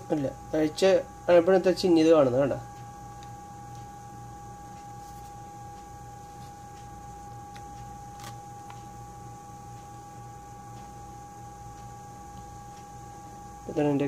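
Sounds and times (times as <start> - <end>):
electrical hum with high tone: 0.0 - 14.0.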